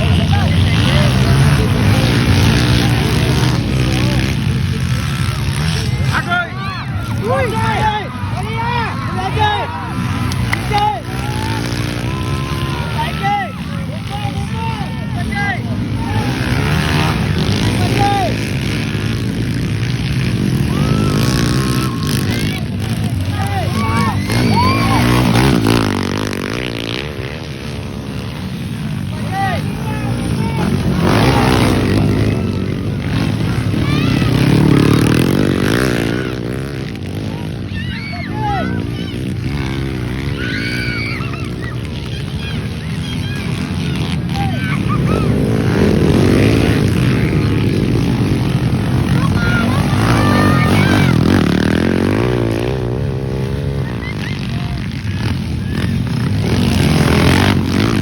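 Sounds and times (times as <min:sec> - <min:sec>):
motorcycle engines revving: 0:00.0 - 0:58.0.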